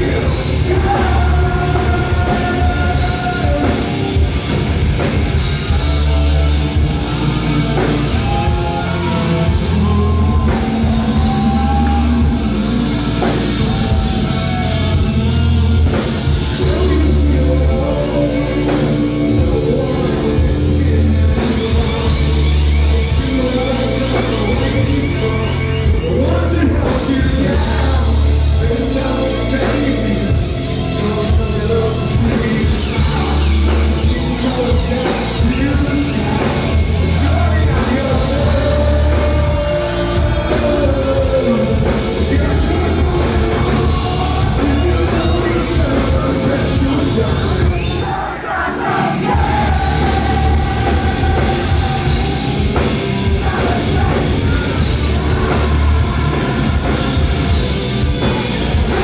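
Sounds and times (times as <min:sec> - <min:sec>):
hard rock band playing live: 0:00.0 - 0:59.0
lead singer: 0:00.0 - 0:59.0.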